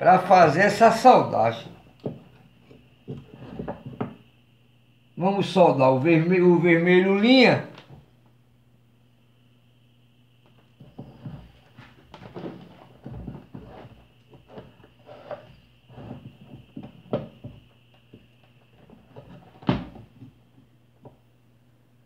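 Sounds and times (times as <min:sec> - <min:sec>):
faint hum: 0:00.0 - 0:22.0
thin high whine: 0:00.0 - 0:22.0.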